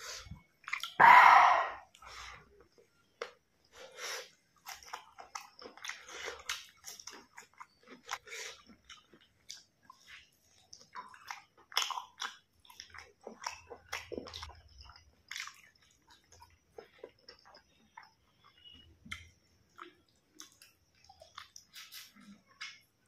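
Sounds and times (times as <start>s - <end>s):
person chewing with smacks: 0.1s - 1.0s, 1.8s - 23.0s.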